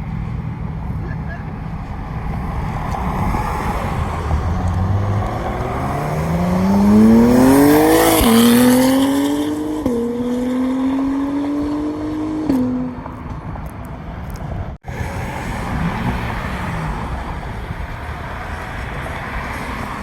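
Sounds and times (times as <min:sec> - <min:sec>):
car engine accelerating hard: 0:00.8 - 0:13.2, 0:14.9 - 0:20.0.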